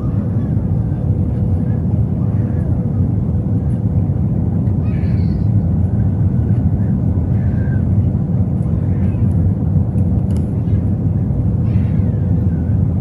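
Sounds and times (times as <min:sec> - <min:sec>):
airplane cabin rumble: 0:00.0 - 0:13.0
faint steady hum: 0:00.0 - 0:13.0.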